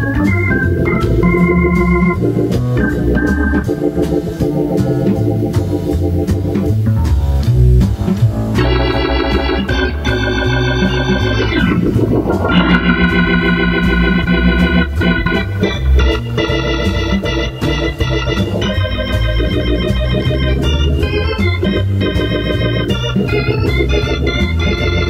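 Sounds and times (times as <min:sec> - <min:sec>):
jazz organ: 0:00.0 - 0:25.0
walking bass line: 0:00.0 - 0:25.0.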